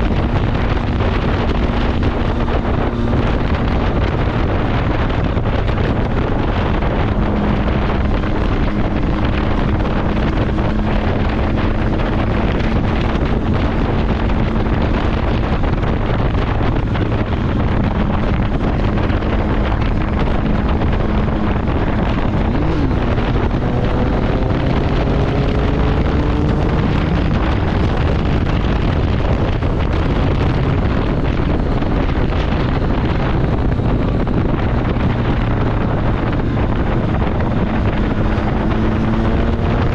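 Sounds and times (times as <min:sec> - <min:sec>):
motorcycle engine drone: 0:00.0 - 0:39.9
wind buffeting microphone: 0:00.0 - 0:39.9.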